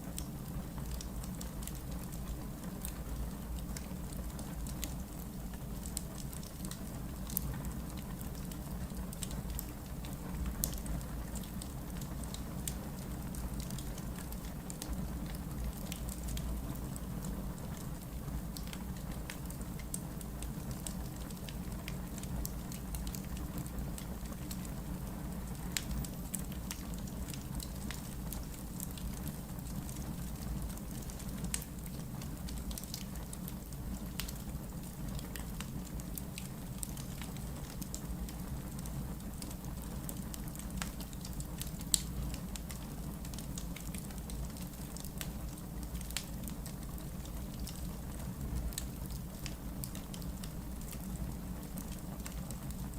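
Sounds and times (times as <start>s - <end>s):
logs crackling in fireplace: 0.0s - 52.9s.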